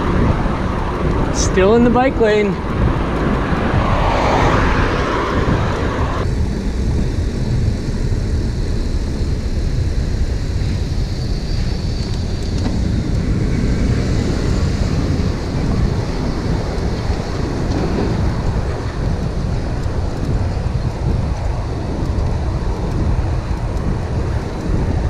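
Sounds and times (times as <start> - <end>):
passing car traffic: 0.0 - 25.0
wind rumbling on microphone: 0.0 - 25.0.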